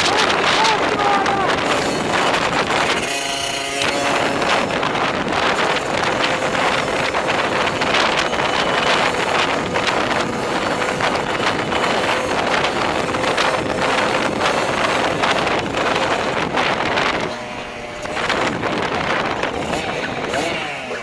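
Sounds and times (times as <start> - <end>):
wind buffeting microphone: 0.0 - 21.0
faint steady engine tone: 1.3 - 21.0.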